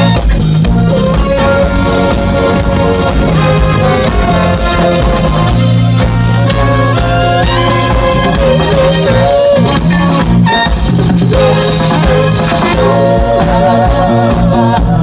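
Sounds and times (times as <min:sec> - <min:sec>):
trumpet: 0:00.0 - 0:14.9
congas: 0:00.0 - 0:15.0
drum kit: 0:00.0 - 0:15.0
saxophone: 0:00.0 - 0:15.0.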